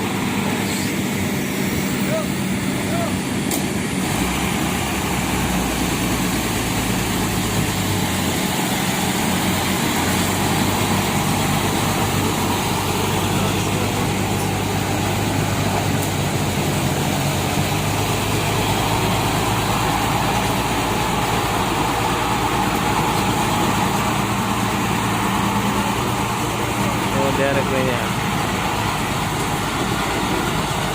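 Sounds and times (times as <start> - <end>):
heavy diesel engines humming: 0.0 - 30.9.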